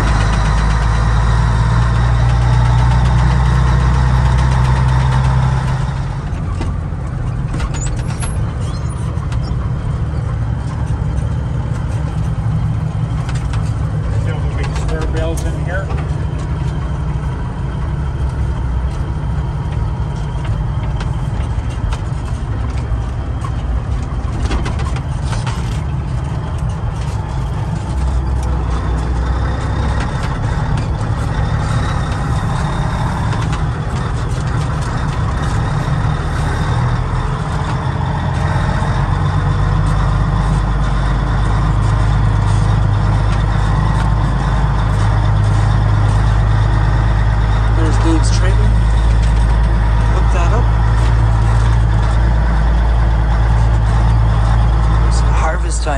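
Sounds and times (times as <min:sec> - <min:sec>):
cab rattle: 0:00.0 - 0:55.9
truck diesel engine drone: 0:00.0 - 0:55.9.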